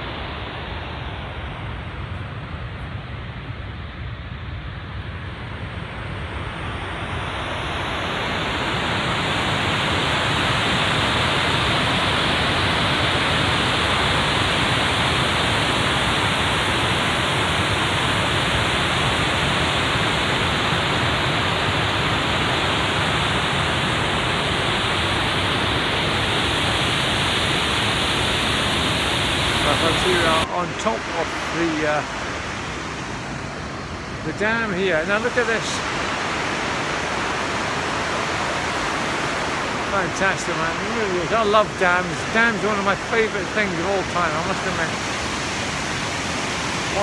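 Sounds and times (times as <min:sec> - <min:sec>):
water rushing over a dam: 0:06.0 - 0:47.0.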